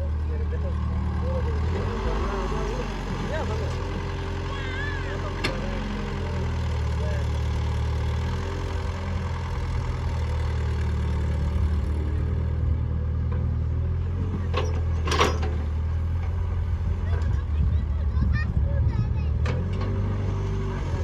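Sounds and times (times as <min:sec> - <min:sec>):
diesel engine idling: 0:00.0 - 0:15.0, 0:15.6 - 0:21.0.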